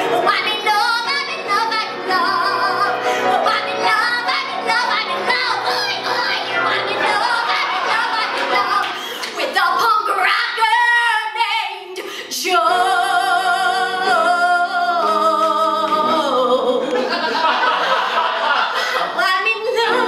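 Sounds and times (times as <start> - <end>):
woman singing into a microphone: 0.0 - 17.1, 18.9 - 20.0.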